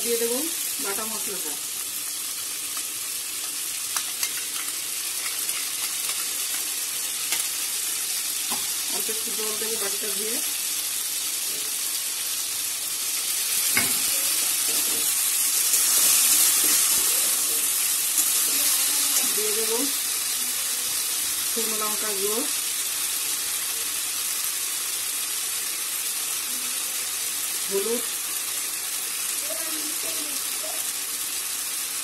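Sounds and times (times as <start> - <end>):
oil sizzling in a pan: 0.0 - 32.0.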